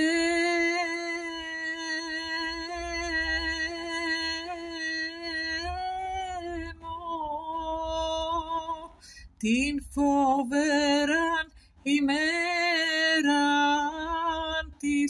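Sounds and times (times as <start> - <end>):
woman chanting: 0.0 - 15.0.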